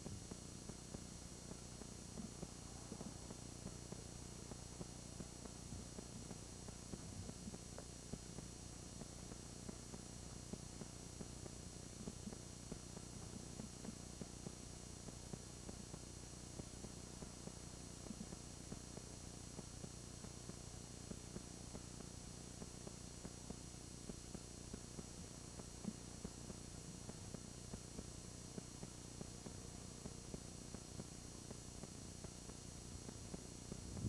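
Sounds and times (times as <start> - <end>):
electrical hum and hiss: 0.0 - 34.0.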